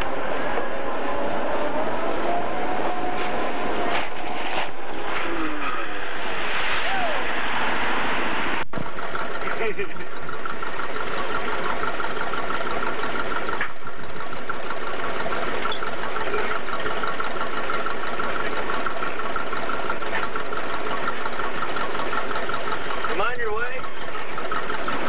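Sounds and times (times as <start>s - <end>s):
vehicle engine idling: 0.0s - 6.5s, 7.2s - 25.0s.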